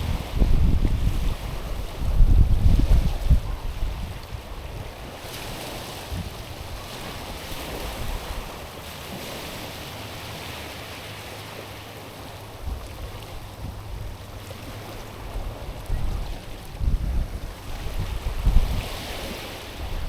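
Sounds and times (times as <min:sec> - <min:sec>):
waves washing on stony shore: 0:00.0 - 0:20.0
wind rumble on microphone: 0:00.0 - 0:20.0.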